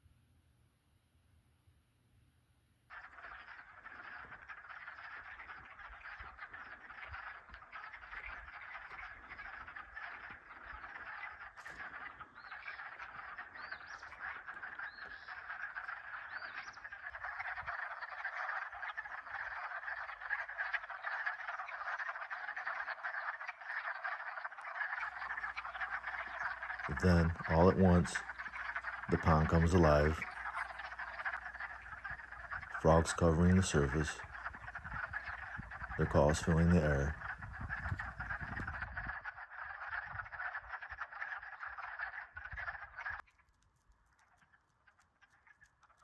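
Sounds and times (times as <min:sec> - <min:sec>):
chorus of frogs croaking: 0:02.9 - 0:46.0.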